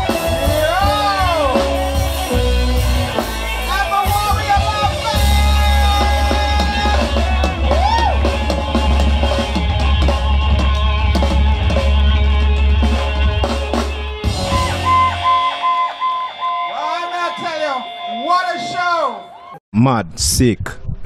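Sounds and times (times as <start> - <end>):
drum kit: 0.0 - 17.9
guitar playing: 0.0 - 19.6
reggae band music: 0.0 - 19.6
heavy bass line: 0.0 - 21.0.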